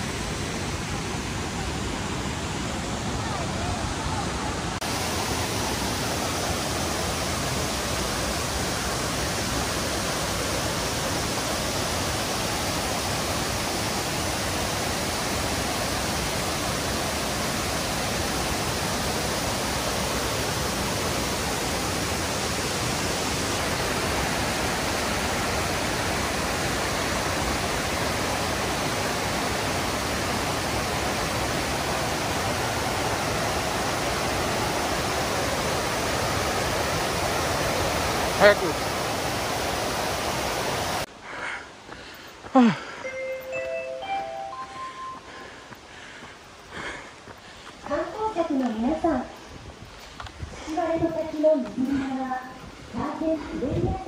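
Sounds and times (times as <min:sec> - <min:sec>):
waterfall rushing: 0:00.0 - 0:41.2, 0:41.8 - 0:47.2.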